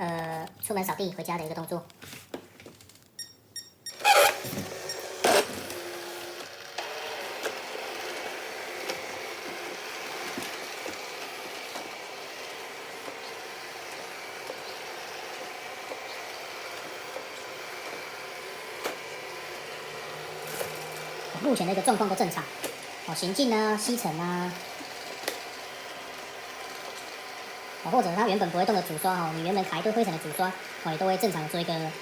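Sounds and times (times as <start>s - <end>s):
robot vacuum running: 3.9s - 32.0s.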